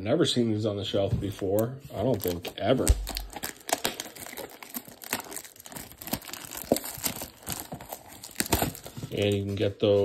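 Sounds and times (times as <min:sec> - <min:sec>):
plastic wrap crinkling and tearing: 0:01.2 - 0:10.0.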